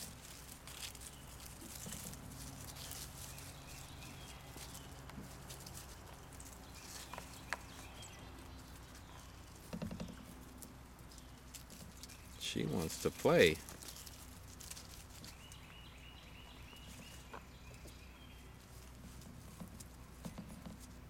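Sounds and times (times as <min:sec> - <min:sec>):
puppy paws tapping on concrete: 0:00.0 - 0:12.4, 0:13.6 - 0:21.0.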